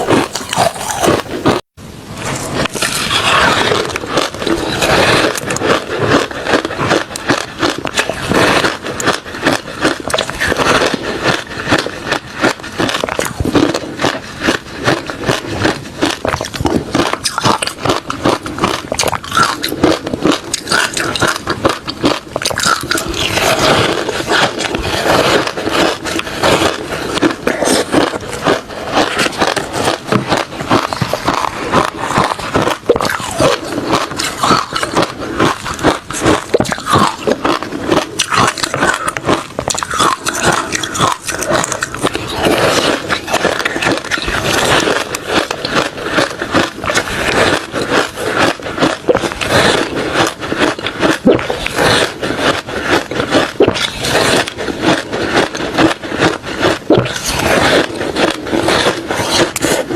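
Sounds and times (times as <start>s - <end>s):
person chewing crushed ice: 0.0s - 59.9s.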